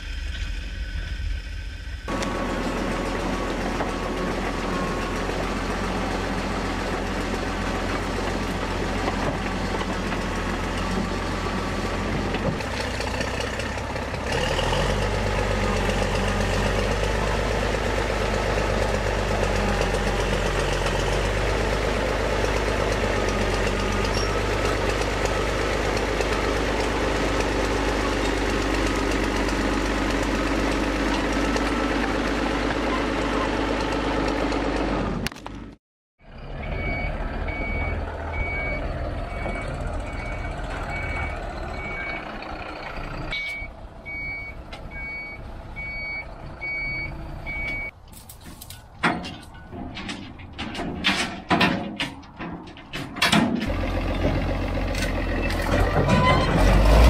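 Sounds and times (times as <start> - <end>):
bulldozer diesel engine running: 0.0 - 48.1, 48.7 - 57.0.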